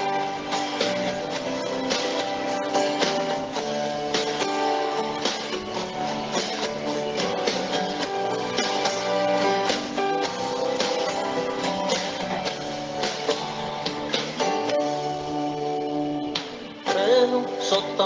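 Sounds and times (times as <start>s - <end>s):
band backing: 0.0s - 18.0s
strummed guitar chords: 0.0s - 18.0s.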